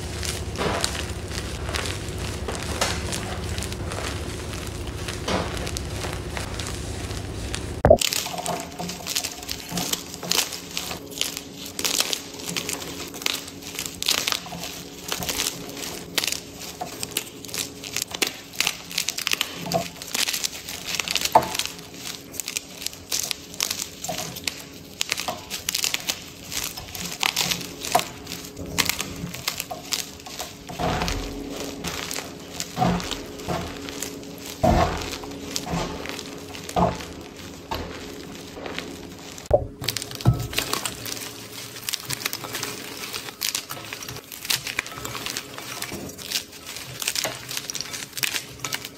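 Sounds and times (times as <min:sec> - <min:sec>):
chalk crunching in hands: 0:00.0 - 0:48.9.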